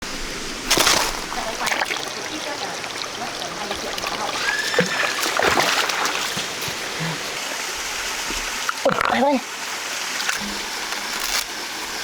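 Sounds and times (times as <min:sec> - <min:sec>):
stream water running: 0:00.0 - 0:12.0
small water splashes: 0:00.1 - 0:11.5.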